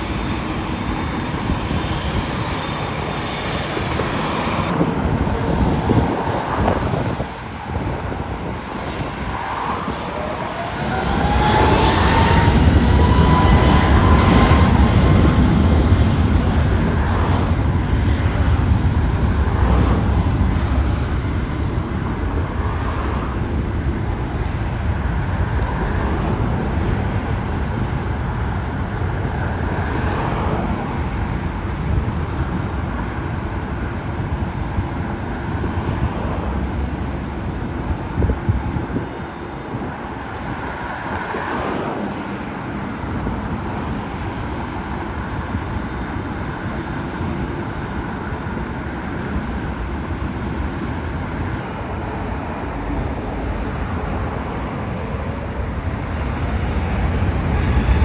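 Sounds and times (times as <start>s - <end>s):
road traffic rumble: 0.0s - 58.0s
vehicles sweeping by: 0.0s - 58.0s.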